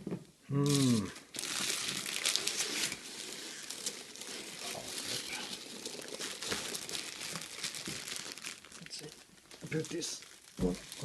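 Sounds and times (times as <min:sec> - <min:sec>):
packaging crinkling and rustling: 0:00.7 - 0:11.0.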